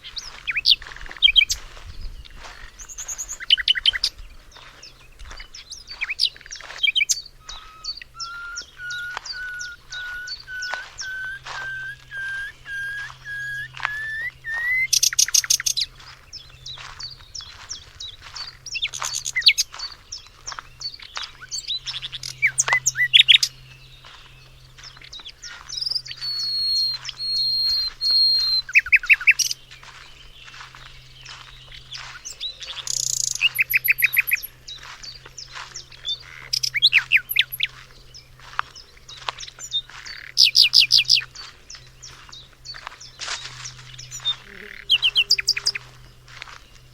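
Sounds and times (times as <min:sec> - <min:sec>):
faint low hum: 0:00.0 - 0:46.9
songbirds singing: 0:00.0 - 0:46.9.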